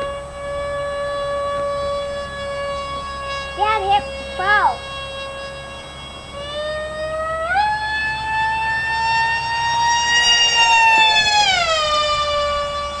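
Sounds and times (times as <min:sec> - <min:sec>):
electric motor and propeller whining: 0:00.0 - 0:13.0.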